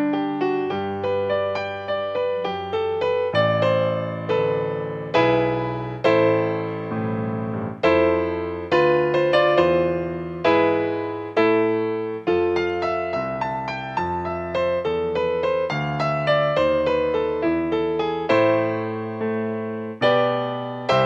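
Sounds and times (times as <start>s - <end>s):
slow gentle piano chords: 0.0s - 21.0s.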